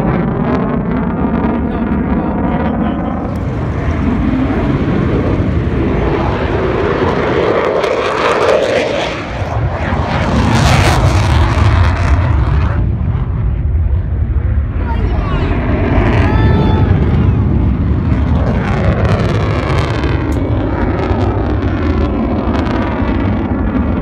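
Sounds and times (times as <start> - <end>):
jet engines roaring with high whine: 0.0 - 24.0.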